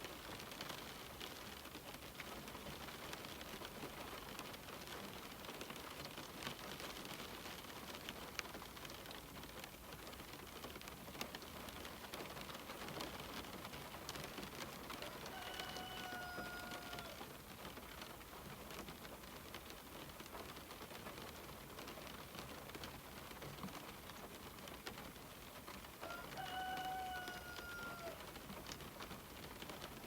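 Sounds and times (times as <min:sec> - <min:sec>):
rain on a window: 0:00.0 - 0:30.0
raindrops tapping: 0:00.0 - 0:30.0.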